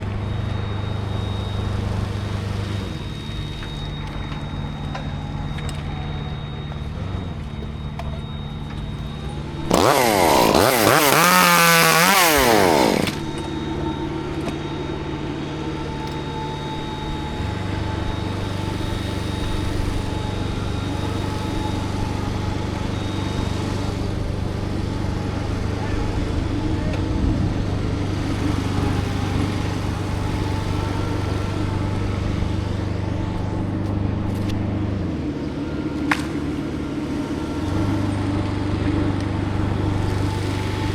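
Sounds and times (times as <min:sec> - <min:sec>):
chainsaw revving: 0:00.0 - 0:40.9
low engine drone: 0:00.0 - 0:40.9.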